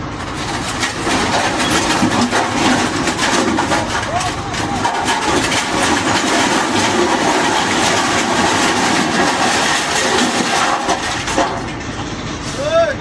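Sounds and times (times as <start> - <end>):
mechanical rattling and rumbling: 0.0 - 13.0.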